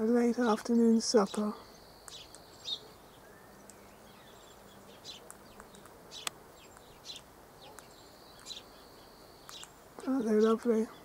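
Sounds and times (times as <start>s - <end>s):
faint high bird chirps: 0.2s - 11.0s.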